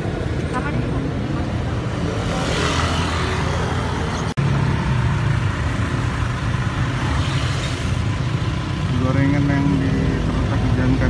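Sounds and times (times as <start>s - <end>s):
traffic engines humming: 0.0s - 11.0s.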